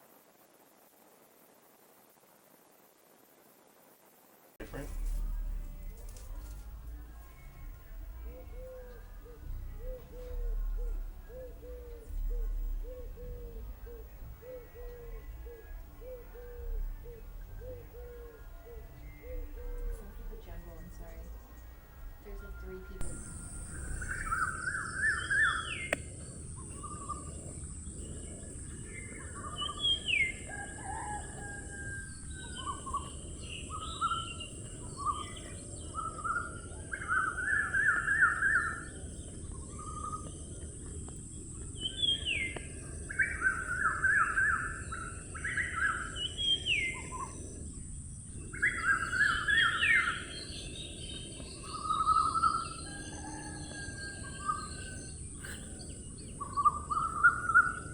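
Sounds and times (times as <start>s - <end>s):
steady high-pitched hiss: 0.0s - 57.9s
birds chirping and whistling: 7.2s - 57.9s.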